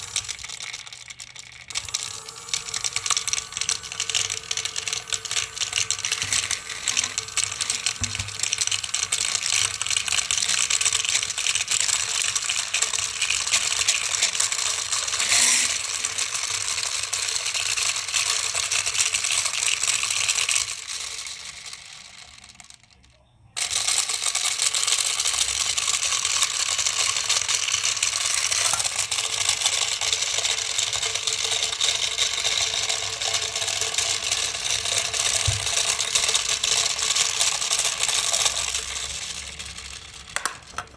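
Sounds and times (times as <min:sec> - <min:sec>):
toy washing machine rattling crackle: 0:00.0 - 0:40.9.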